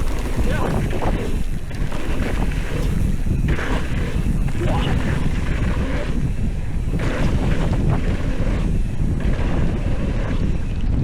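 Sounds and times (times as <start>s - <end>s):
bike crunches and rattles: 0.0s - 11.0s
wind buffeting microphone: 0.0s - 11.0s.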